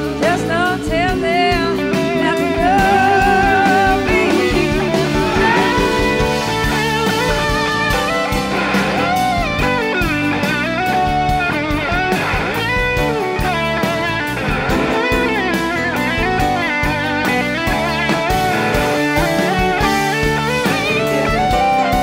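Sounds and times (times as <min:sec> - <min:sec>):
blues-rock band playing: 0:00.0 - 0:22.0
electric guitar solo: 0:00.0 - 0:22.0.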